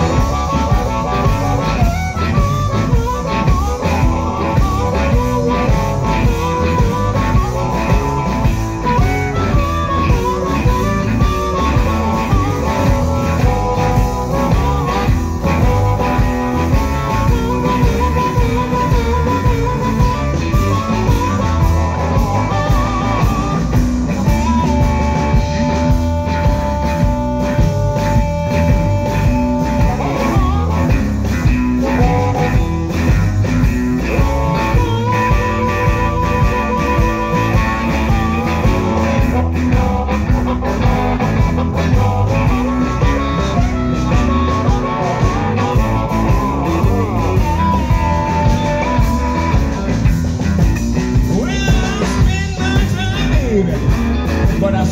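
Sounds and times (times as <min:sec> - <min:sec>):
drums: 0:00.0 - 0:54.9
electric bass: 0:00.0 - 0:54.9
electric guitar: 0:00.0 - 0:54.9
harmonica: 0:00.0 - 0:54.9.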